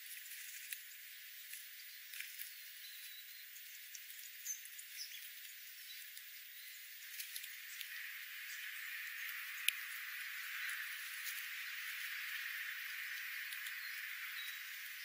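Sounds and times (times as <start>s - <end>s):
faint steady hiss: 0.0s - 15.0s
bird chirps: 1.8s - 15.0s.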